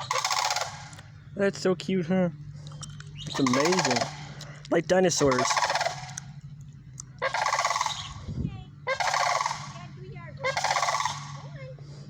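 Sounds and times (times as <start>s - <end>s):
cranes rattling calls: 0.0s - 12.0s.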